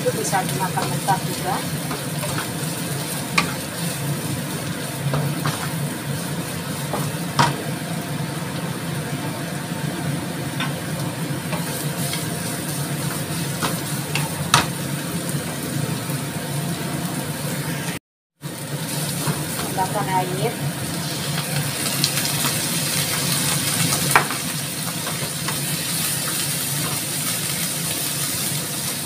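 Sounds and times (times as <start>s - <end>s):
vegetables sizzling in a frying pan: 0.0s - 29.0s.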